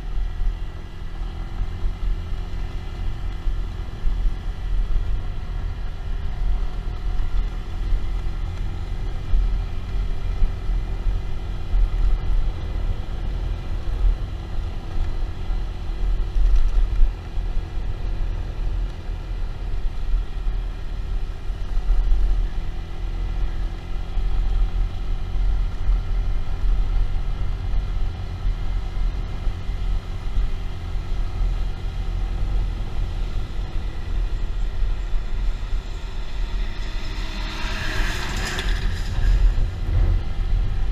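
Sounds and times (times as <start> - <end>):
motorcycle engine hum: 0.0 - 40.9
wind rumble on microphone: 0.0 - 40.9.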